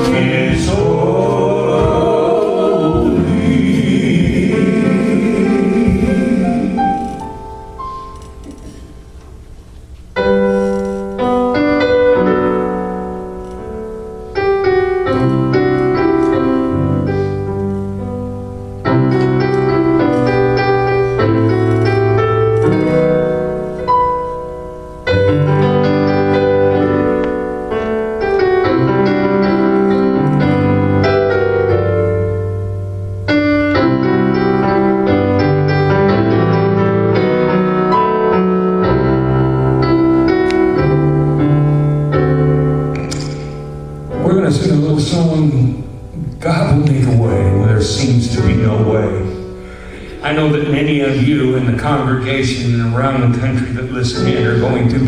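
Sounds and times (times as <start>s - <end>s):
piano playing slow chords: 0.0s - 55.0s.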